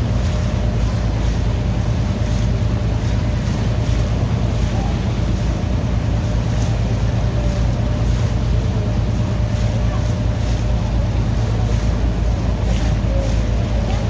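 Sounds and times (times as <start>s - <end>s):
boat engine running: 0.0s - 14.0s
water rushing past hull: 0.0s - 14.0s.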